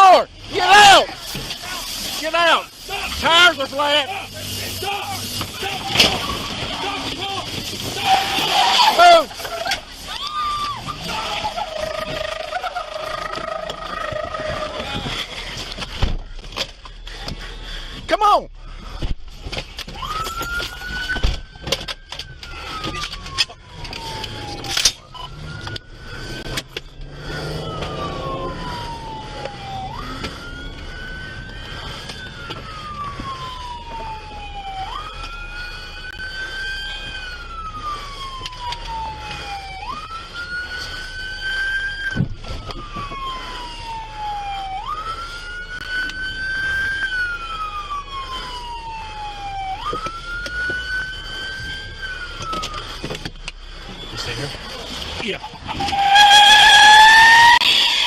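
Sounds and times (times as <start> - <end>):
higher siren: 0.0 - 16.0, 19.7 - 58.0
police siren wailing: 0.0 - 58.0.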